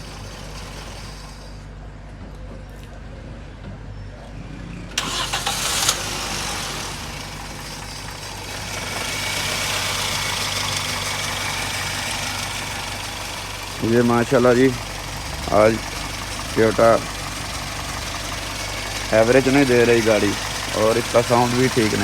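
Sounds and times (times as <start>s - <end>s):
car engine cranking and running: 0.0s - 2.9s, 4.9s - 22.0s.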